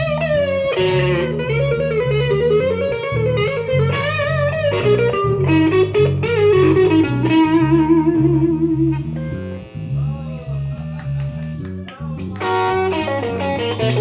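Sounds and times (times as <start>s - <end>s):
electric bass line: 0.0s - 14.0s
electric guitar lead with bent notes: 0.0s - 14.0s.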